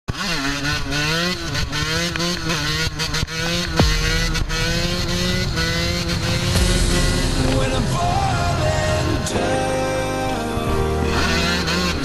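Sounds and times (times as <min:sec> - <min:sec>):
dirt bike engine accelerating: 0:00.1 - 0:12.0.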